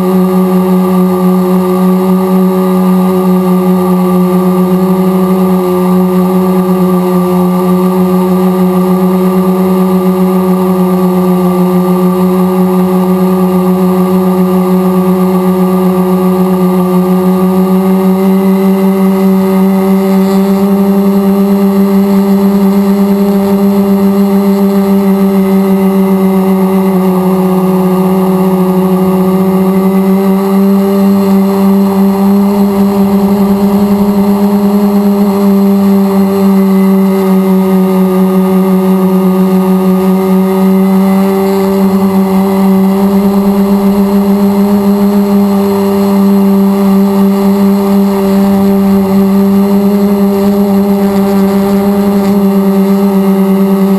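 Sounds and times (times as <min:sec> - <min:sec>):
drone motors whining: 0:00.0 - 0:53.9.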